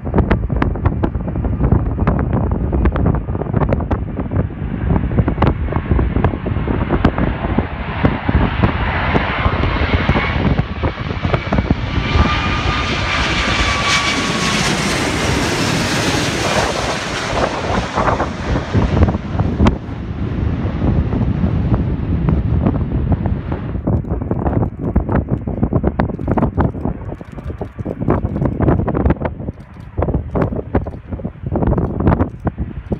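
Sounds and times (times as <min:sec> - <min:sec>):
jet airliner engine roar: 0:00.0 - 0:32.9
jet engine whine: 0:00.0 - 0:32.9
wind buffeting microphone: 0:00.0 - 0:32.9.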